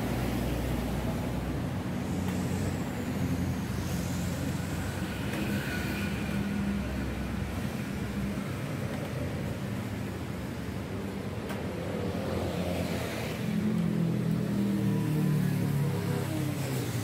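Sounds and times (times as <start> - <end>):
road traffic drone: 0.0 - 17.0.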